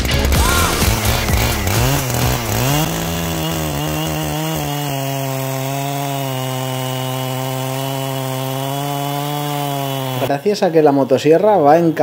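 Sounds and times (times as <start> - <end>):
chainsaw cutting log: 0.0 - 10.3.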